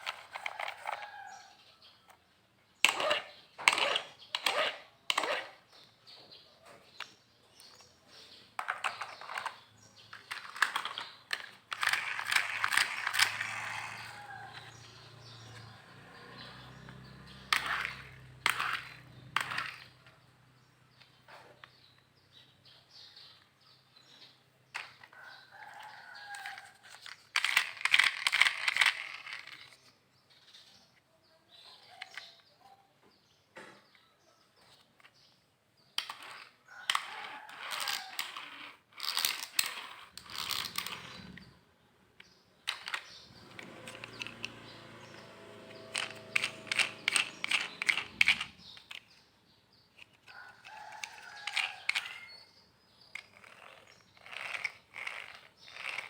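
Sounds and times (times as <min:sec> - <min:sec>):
plastic toy vehicles clattering: 0:00.0 - 0:01.5, 0:02.8 - 0:06.0, 0:06.7 - 0:22.2, 0:23.2 - 0:30.6, 0:31.6 - 0:32.6, 0:34.6 - 0:41.6, 0:42.2 - 0:49.3, 0:49.9 - 0:56.0.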